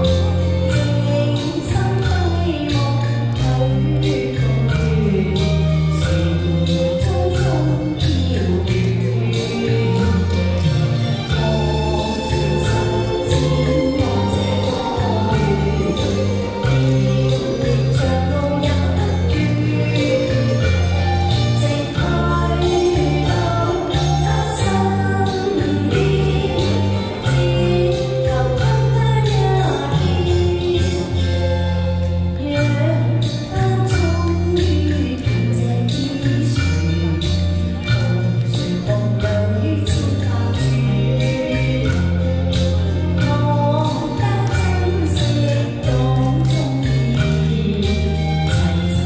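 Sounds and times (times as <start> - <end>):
backing track with bass line: 0.0 - 49.0
woman singing into microphone: 0.0 - 49.0.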